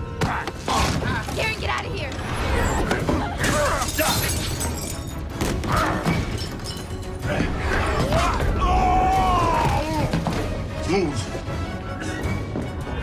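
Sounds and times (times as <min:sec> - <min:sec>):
dramatic music: 0:00.0 - 0:13.0.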